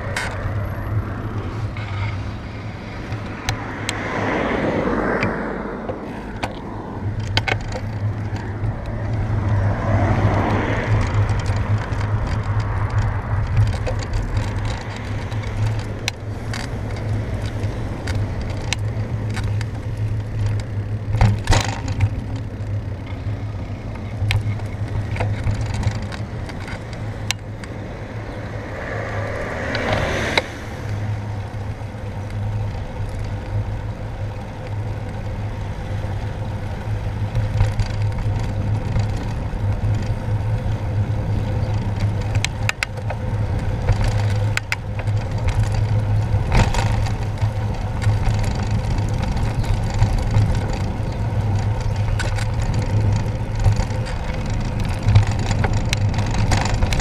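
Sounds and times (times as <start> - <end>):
wind and road rumble: 0.0 - 57.0
handlebar clicks: 5.1 - 57.0.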